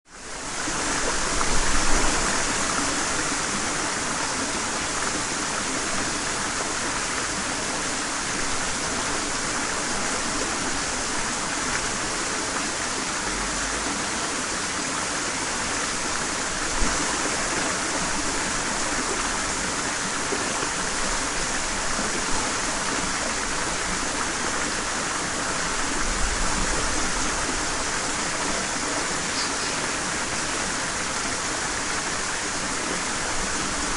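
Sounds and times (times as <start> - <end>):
stream flowing over rocks: 0.1 - 33.9.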